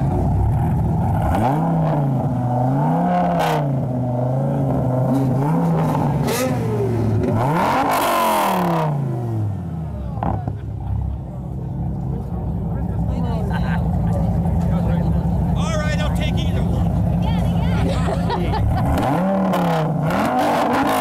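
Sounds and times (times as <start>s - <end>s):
car engine revving: 0.0s - 11.2s, 11.8s - 21.0s.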